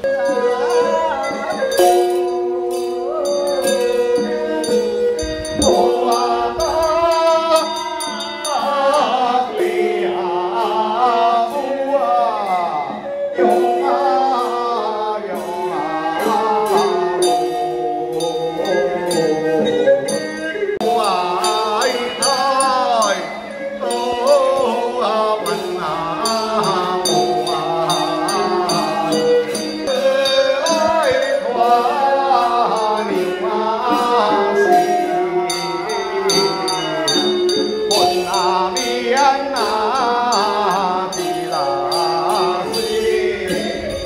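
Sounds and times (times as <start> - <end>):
handbell jingling: 0.0 - 10.0, 13.5 - 44.0.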